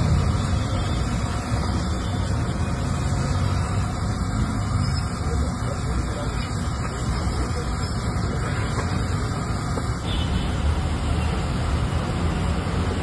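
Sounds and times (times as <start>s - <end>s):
gas burner rumble: 0.0s - 13.0s
street traffic: 0.0s - 13.0s.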